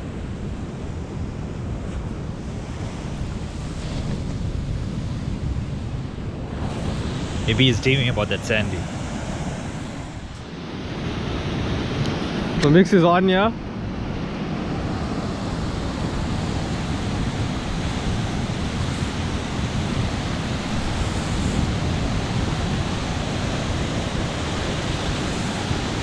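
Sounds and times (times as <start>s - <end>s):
ocean surf washing on shore: 0.0s - 26.0s
wind noise on microphone: 0.0s - 26.0s.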